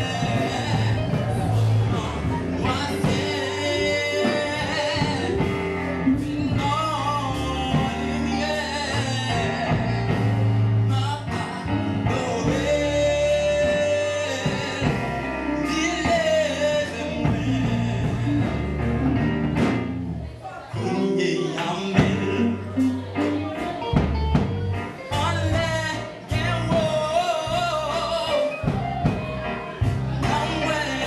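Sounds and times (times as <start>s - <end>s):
man singing into microphone: 0.0s - 19.2s, 20.7s - 23.6s, 25.0s - 31.0s
instrumental accompaniment with bass: 0.0s - 31.0s.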